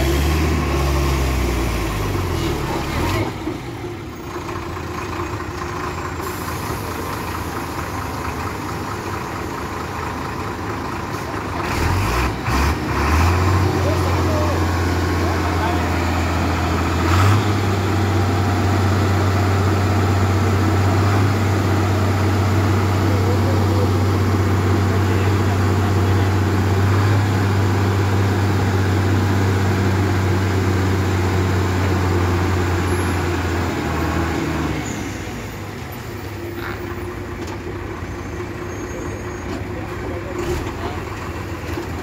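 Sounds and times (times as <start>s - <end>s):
traffic engine noise: 0.0s - 42.0s
truck diesel engine drone: 0.0s - 42.0s.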